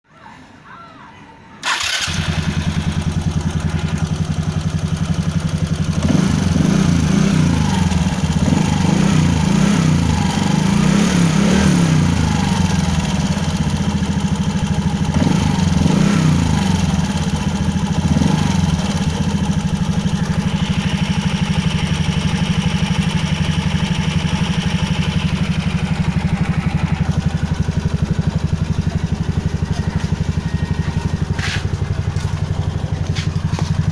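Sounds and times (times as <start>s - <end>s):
scooter engine starting and running: 1.6s - 33.9s.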